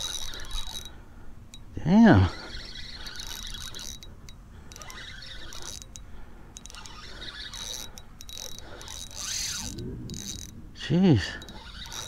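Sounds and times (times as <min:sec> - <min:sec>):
fishing reel clicking: 0:00.0 - 0:12.0.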